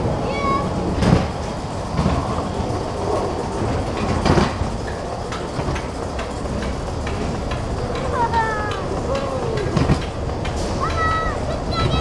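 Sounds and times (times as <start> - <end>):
ride car rumbling on track: 0.0 - 12.0.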